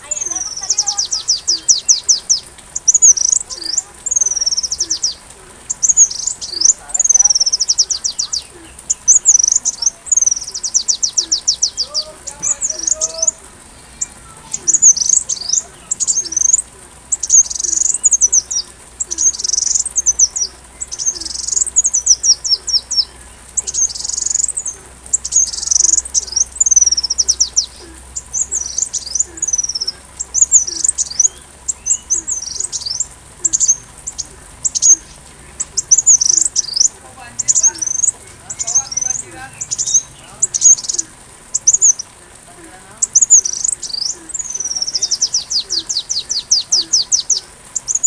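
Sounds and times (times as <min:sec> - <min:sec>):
bird song high trills: 0:00.0 - 0:42.2, 0:42.8 - 0:48.0.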